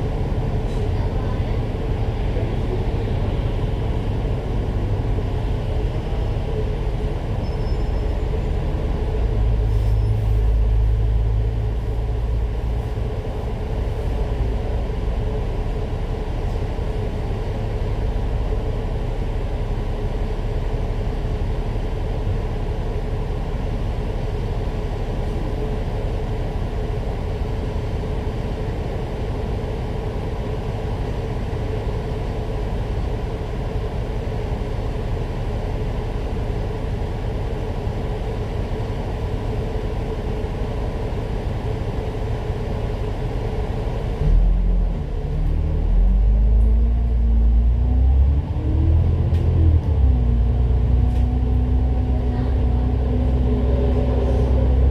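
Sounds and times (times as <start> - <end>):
bus engine rumble: 0.0 - 54.9
road noise: 0.0 - 54.9.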